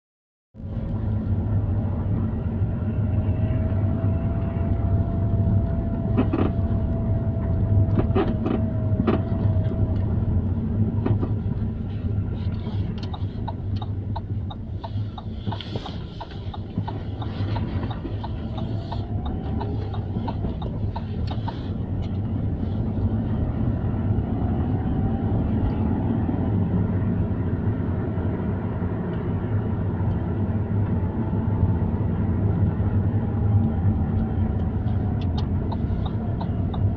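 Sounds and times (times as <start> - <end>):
car road and engine rumble: 0.6 - 36.9.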